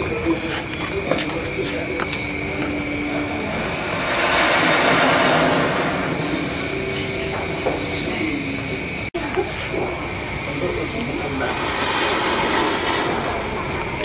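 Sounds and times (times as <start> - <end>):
firework spraying sparks hissing: 0.0 - 14.0.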